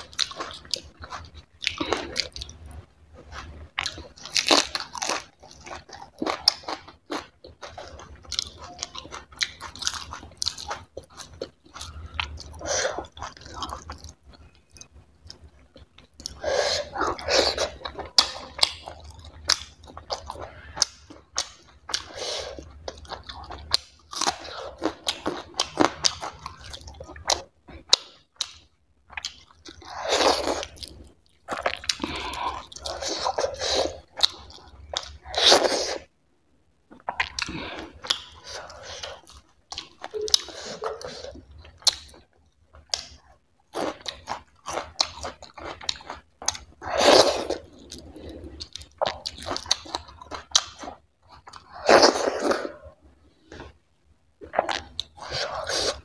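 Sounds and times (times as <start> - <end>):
chewing and crunching food: 0.0 - 36.1, 36.9 - 53.8, 54.4 - 56.0.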